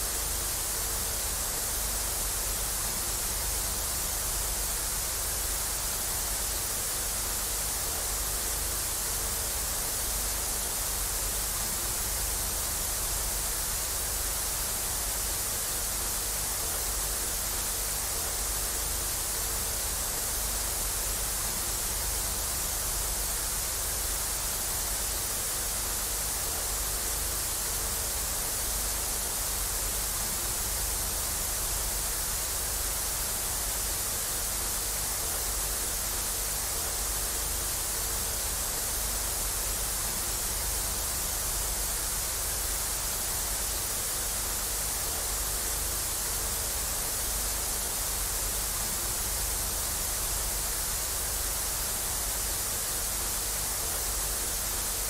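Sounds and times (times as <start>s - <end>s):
television static hiss: 0.0s - 55.0s.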